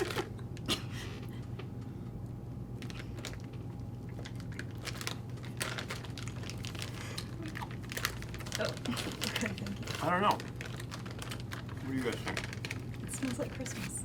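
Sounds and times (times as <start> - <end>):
plastic packaging crinkling: 0.0 - 0.6, 2.8 - 14.0
steady low hum: 0.0 - 14.0.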